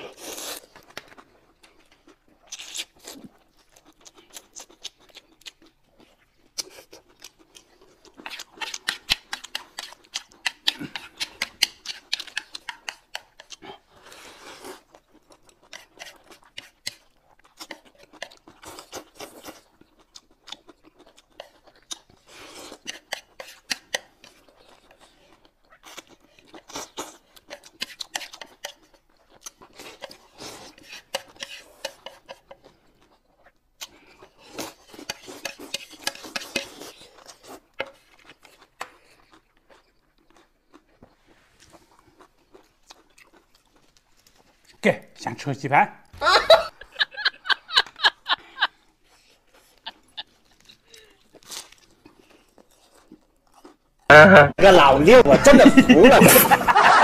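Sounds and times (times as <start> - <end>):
food crunching and tearing: 0.0 - 44.8, 47.8 - 54.1.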